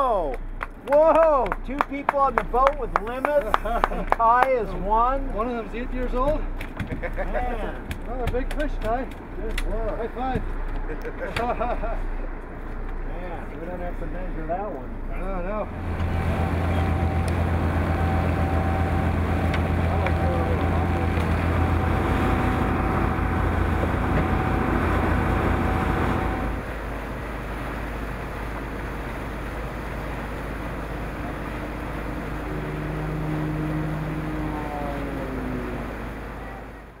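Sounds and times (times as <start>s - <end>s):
motorboat engine humming: 0.0s - 37.0s.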